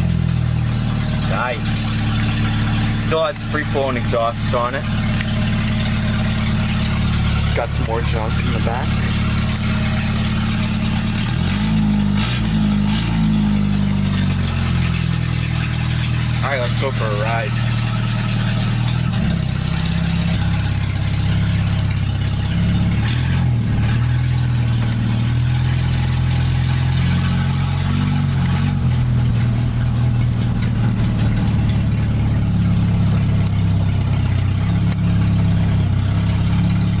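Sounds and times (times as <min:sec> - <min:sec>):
car engine running at low revs: 0:00.0 - 0:37.0.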